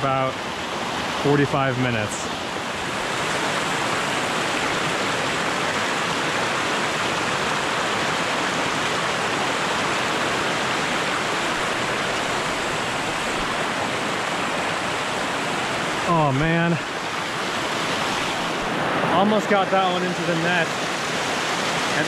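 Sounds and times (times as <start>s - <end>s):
stream rushing over rocks: 0.1s - 22.0s.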